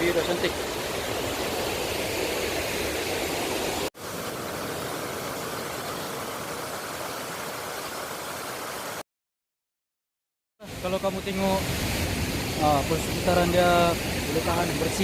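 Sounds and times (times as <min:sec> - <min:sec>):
waterfall rushing: 0:00.0 - 0:09.0, 0:10.6 - 0:15.0.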